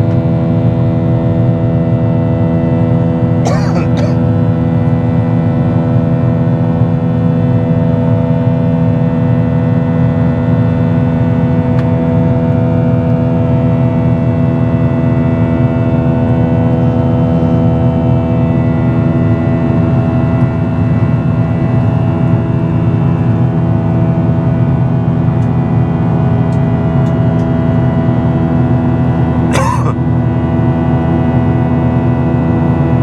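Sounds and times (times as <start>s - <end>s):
airliner cabin engine drone: 0.0s - 33.0s.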